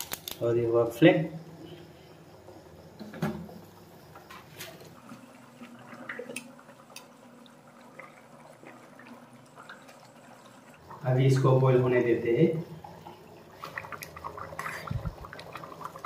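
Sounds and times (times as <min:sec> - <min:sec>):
water boiling in metal pot: 0:00.0 - 0:16.0.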